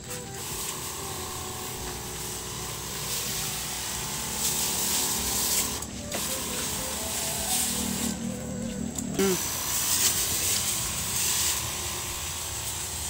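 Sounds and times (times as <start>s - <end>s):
spray hissing from nozzle: 0.0s - 13.0s
sprayer motor whirring: 0.0s - 13.0s.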